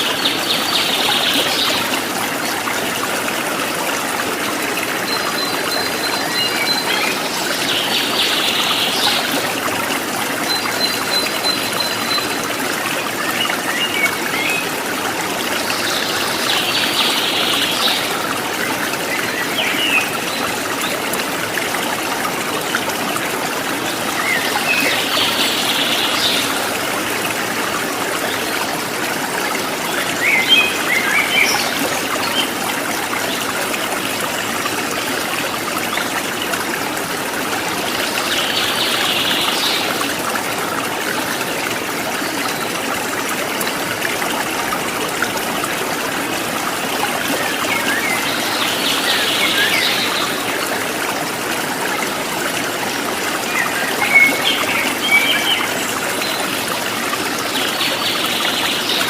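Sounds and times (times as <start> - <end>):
trickling stream water: 0.0 - 59.0.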